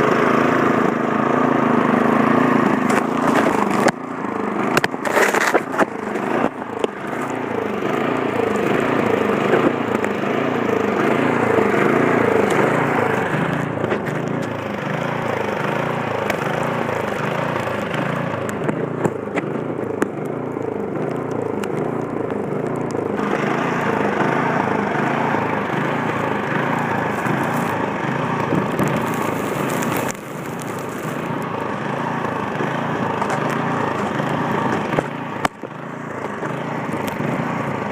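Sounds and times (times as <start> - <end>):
snowblower engine running: 0.0 - 37.9.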